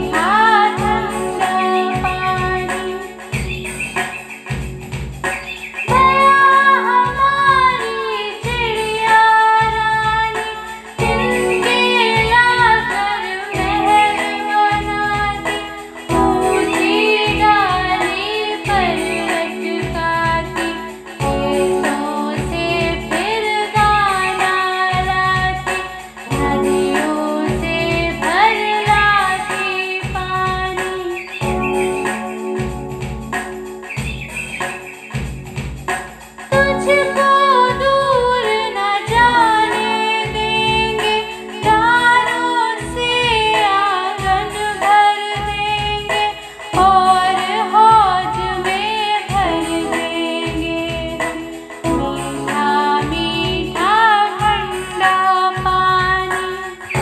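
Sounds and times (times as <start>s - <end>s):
person singing: 0.0s - 3.5s, 5.9s - 32.6s, 36.5s - 57.0s
backing music with steady beat: 0.0s - 57.0s.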